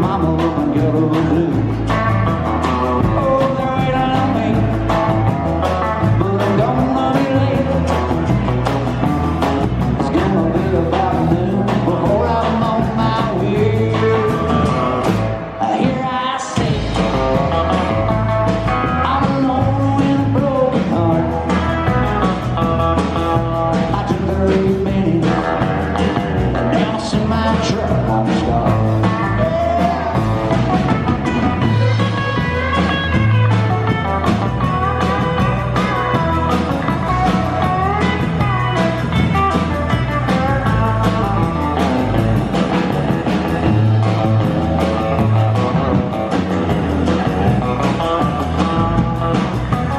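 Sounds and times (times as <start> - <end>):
bass guitar: 0.0 - 49.9
country-rock band playing: 0.0 - 49.9
drums keeping steady beat: 0.0 - 49.9
lead guitar with bent notes: 0.0 - 49.9.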